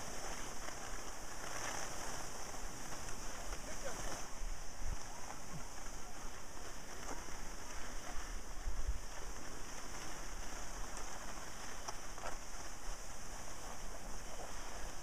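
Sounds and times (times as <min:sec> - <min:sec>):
skis scraping over snow: 0:00.0 - 0:15.0.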